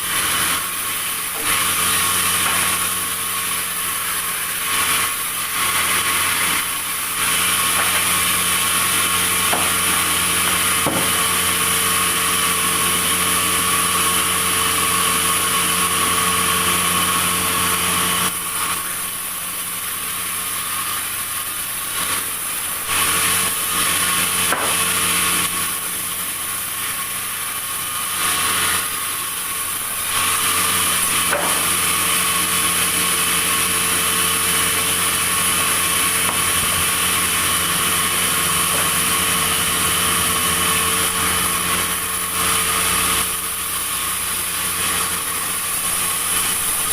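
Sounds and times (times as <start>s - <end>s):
sawmill saw running: 0.0s - 46.9s.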